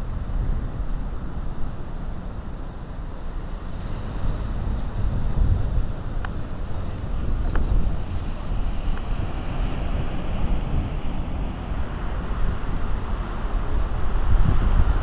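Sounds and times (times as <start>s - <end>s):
wind buffeting microphone: 0.0s - 15.0s
ocean surf washing: 2.8s - 15.0s.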